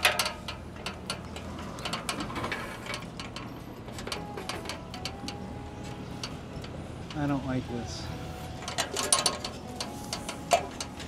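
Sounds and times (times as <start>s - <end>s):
metal ladder clicking and clanking: 0.0s - 7.4s, 8.6s - 11.0s.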